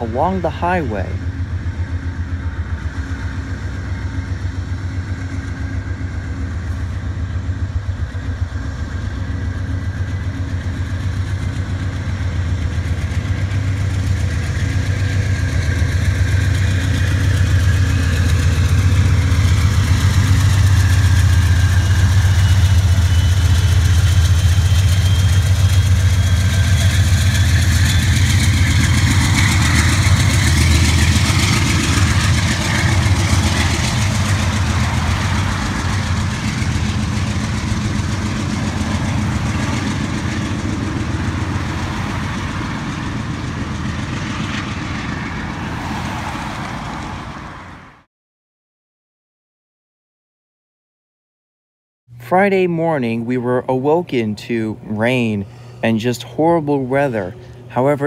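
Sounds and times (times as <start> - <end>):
diesel locomotive throbbing: 0.0 - 48.1, 52.1 - 58.0.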